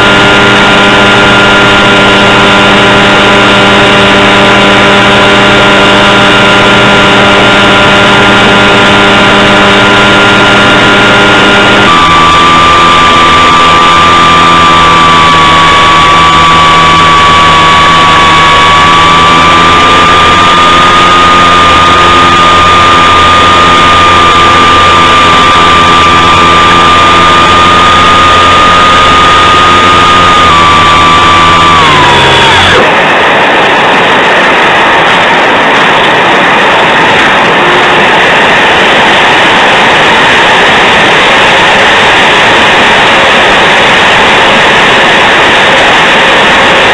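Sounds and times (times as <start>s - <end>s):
model airplane engine and propeller: 0.0s - 46.9s.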